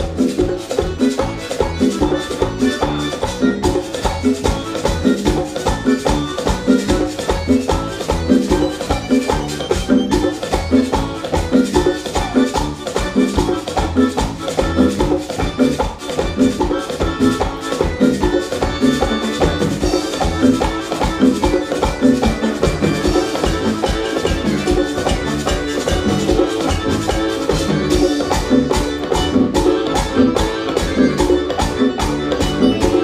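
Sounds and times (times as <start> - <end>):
button accordion melody: 0.0 - 33.0
congas: 0.0 - 33.0
electric bass guitar: 0.0 - 33.0
fast percussion beat: 0.0 - 33.0.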